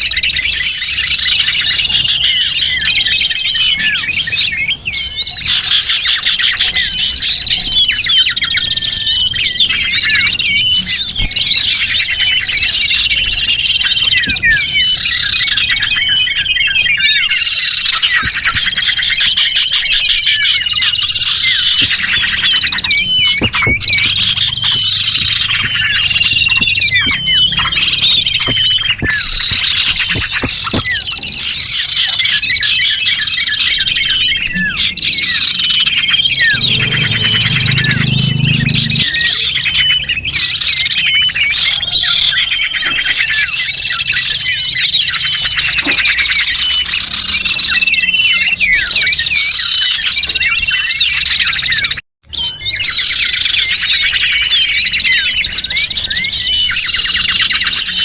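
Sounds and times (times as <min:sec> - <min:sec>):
songbirds chirping and twittering: 0:00.0 - 0:58.0.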